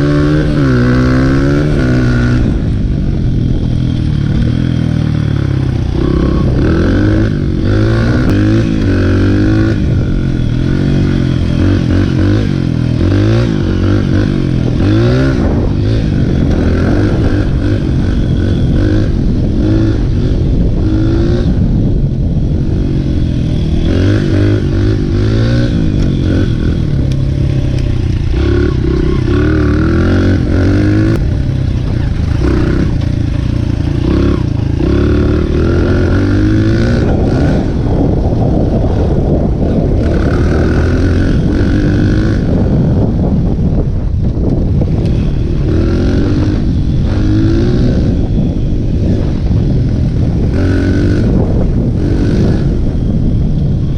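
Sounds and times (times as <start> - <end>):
dirt bike engine revving: 0.0 - 43.8, 44.7 - 53.9.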